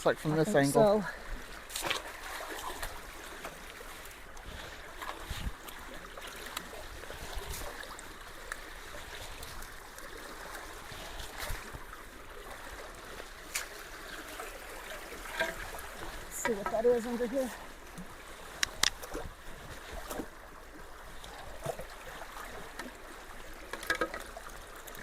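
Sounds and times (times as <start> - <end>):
creek water rushing into culvert: 0.0 - 25.0
faint knocks and splashes: 1.4 - 25.0.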